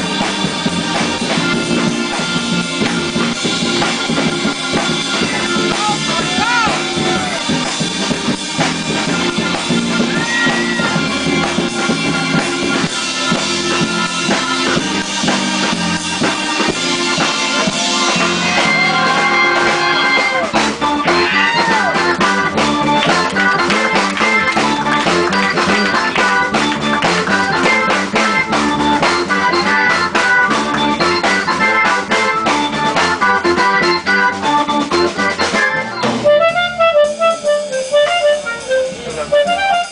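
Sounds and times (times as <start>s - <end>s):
drum kit: 0.0s - 39.9s
electric bass guitar: 0.0s - 39.9s
organ-toned keyboard: 0.0s - 39.9s
woodwind: 5.2s - 7.9s, 8.5s - 39.9s.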